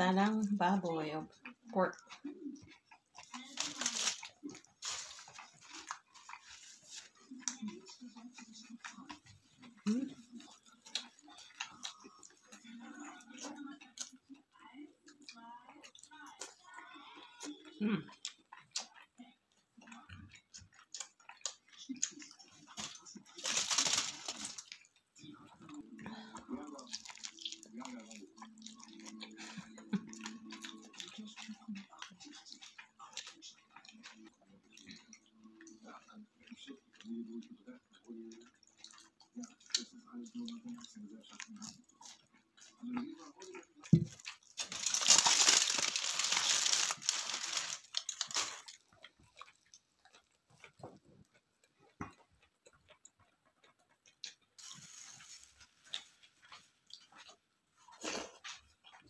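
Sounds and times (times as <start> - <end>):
quiet chewing: 0.0 - 59.0
wet mouth eating sounds: 1.3 - 16.7, 17.3 - 59.0.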